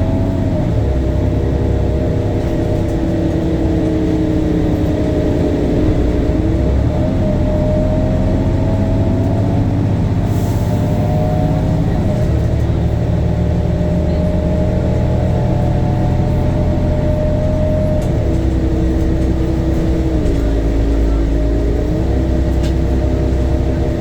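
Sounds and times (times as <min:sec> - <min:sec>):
bus diesel engine accelerating: 0:00.0 - 0:24.0.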